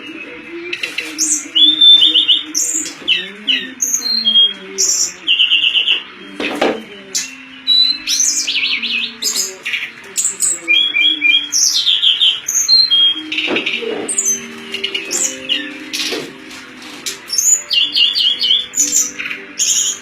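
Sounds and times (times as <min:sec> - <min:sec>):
low steady tones: 0:00.0 - 0:20.0
songbird chirping and trilling: 0:00.0 - 0:20.0.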